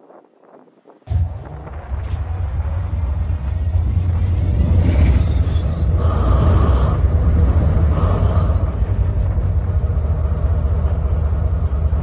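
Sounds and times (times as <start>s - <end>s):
diesel locomotive engine rumbling: 1.1s - 12.0s.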